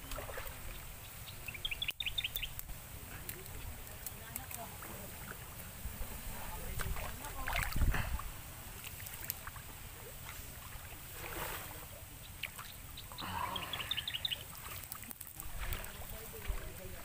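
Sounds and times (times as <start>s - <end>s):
person wading through river water: 0.0s - 17.0s.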